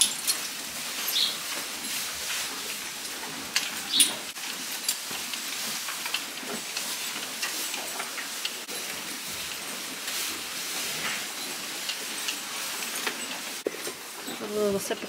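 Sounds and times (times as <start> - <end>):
cows eating hay: 0.0 - 15.0.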